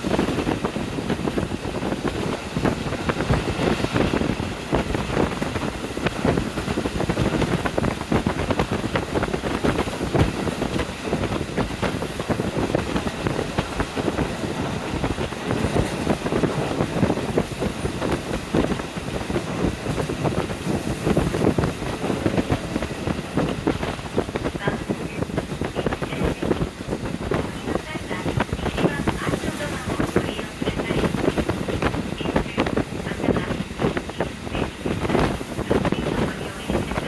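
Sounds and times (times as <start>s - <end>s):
railcar running noise: 0.0s - 37.0s
wind buffeting microphone: 0.0s - 37.0s.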